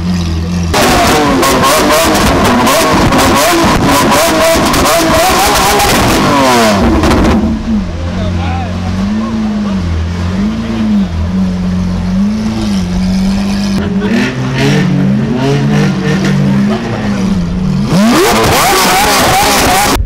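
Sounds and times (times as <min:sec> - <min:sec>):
car engine idling: 0:00.0 - 0:20.0
car engine revving: 0:00.0 - 0:20.0.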